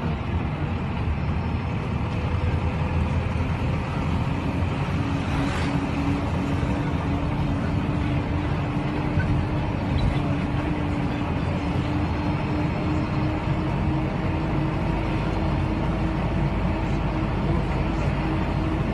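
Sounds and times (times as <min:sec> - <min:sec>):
vehicle engine rumbling: 0:00.0 - 0:18.9.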